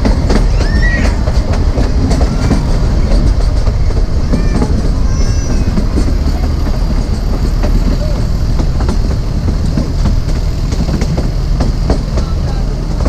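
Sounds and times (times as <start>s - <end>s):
train rumbling: 0.0s - 13.0s
wheels clattering over rail joints: 0.0s - 13.0s.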